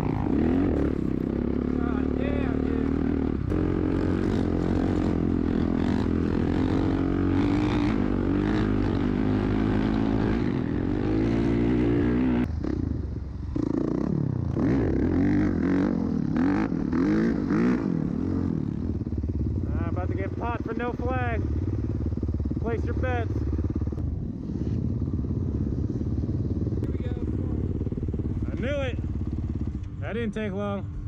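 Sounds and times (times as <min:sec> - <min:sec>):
dirt bike engine revving: 0:00.0 - 0:30.2.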